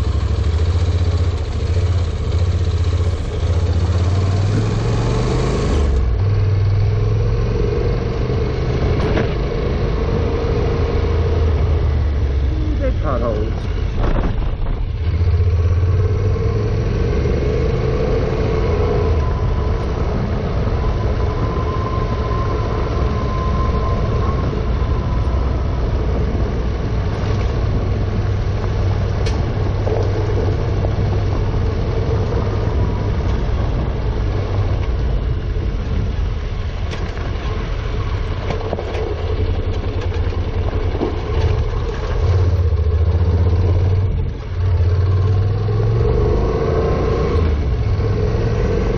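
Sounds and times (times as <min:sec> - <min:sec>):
motorcycle engine running: 0:00.0 - 0:07.6, 0:08.6 - 0:45.6.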